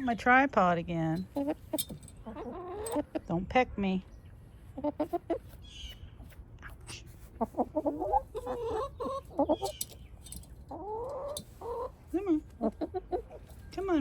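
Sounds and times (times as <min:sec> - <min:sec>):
hens clucking: 0:01.2 - 0:03.6, 0:04.3 - 0:14.0.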